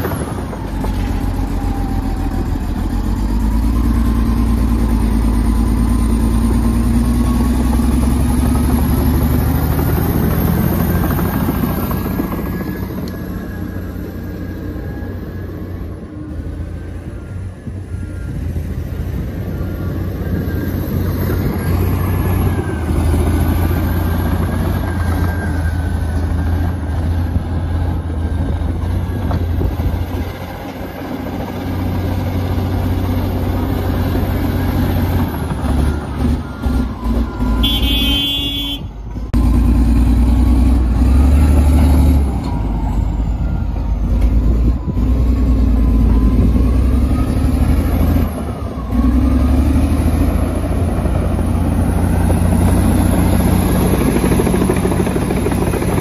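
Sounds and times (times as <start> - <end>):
bulldozer diesel engine running hard: 0.0 - 56.0.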